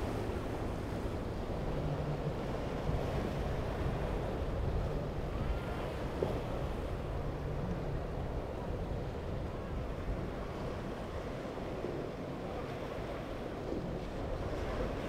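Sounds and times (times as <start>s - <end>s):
boat engines droning: 0.0s - 15.0s
wind buffeting the microphone: 0.0s - 15.0s.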